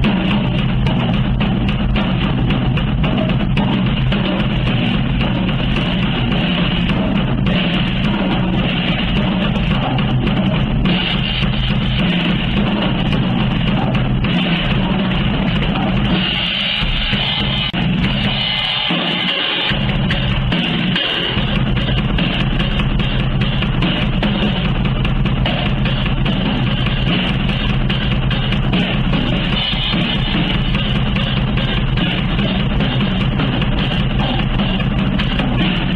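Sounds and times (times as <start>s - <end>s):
bass drum: 0.0s - 35.9s
cymbals: 0.0s - 35.9s
loud rock music: 0.0s - 35.9s.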